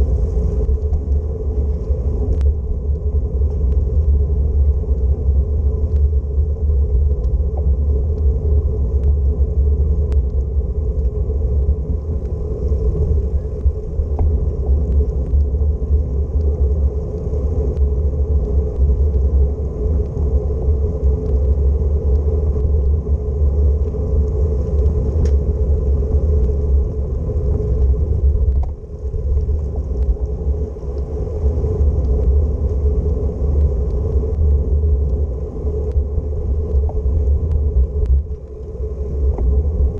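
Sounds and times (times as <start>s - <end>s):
bicycle tyres rolling on road: 0.0s - 39.9s
wind buffeting microphone: 0.0s - 39.9s.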